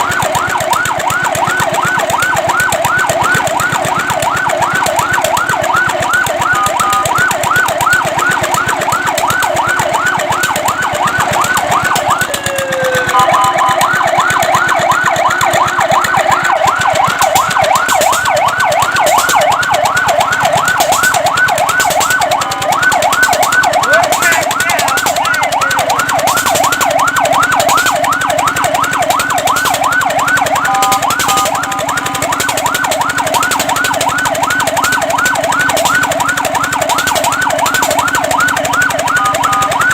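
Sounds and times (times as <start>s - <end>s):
fire truck siren yelp: 0.0s - 39.9s
short steady siren tones: 0.0s - 39.9s.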